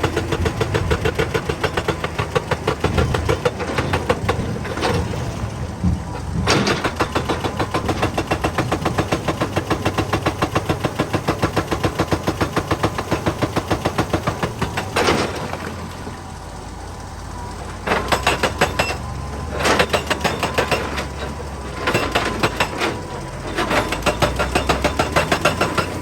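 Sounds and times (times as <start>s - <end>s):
hydraulic rock breaker hammering: 0.0s - 16.0s, 17.8s - 26.0s
diesel engine running: 0.0s - 26.0s.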